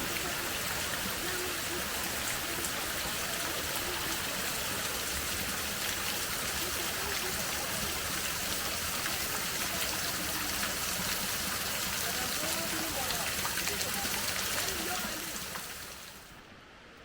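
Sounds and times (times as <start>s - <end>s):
stream water rushing: 0.0s - 16.7s.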